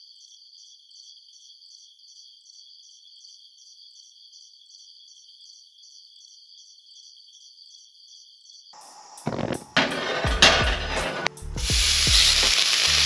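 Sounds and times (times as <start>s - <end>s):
crickets chirping: 0.0s - 10.5s.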